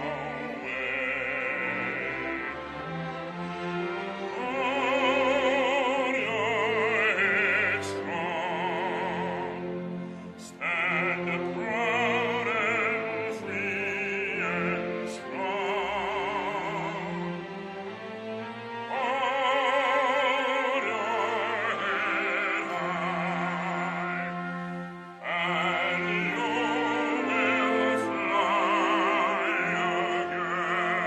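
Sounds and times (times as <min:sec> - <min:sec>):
instrumental accompaniment: 0:00.0 - 0:31.0
operatic singing with vibrato: 0:00.0 - 0:31.0.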